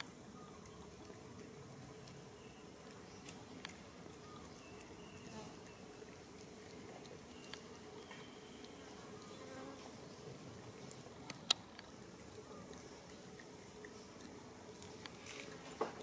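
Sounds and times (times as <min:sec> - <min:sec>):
forest ambience: 0:00.0 - 0:16.0.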